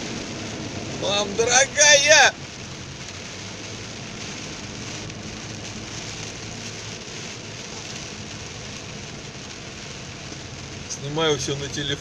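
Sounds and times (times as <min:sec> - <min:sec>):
heavy rain on car roof: 0:00.0 - 0:12.0
low hum of car and tyres: 0:00.0 - 0:12.0.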